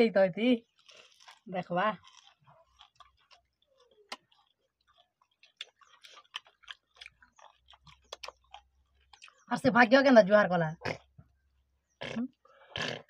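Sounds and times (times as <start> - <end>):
people chewing: 0.6 - 9.5, 10.9 - 13.0.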